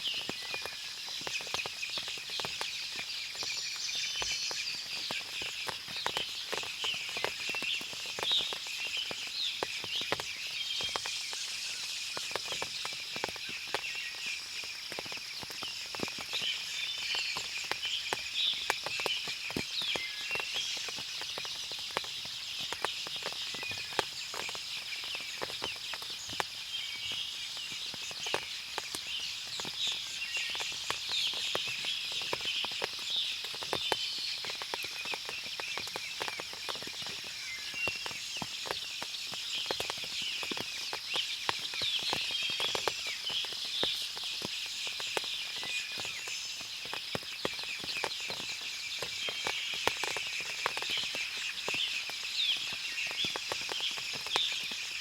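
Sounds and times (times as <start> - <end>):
birds chirping: 0.0 - 55.0
water dripping: 0.0 - 55.0.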